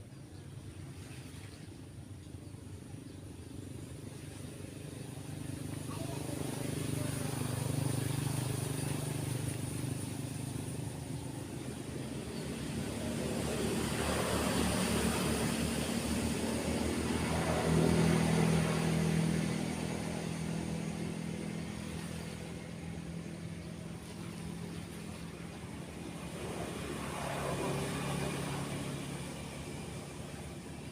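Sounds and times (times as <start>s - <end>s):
waves: 0.0s - 30.9s
motorbikes passing: 4.1s - 30.9s.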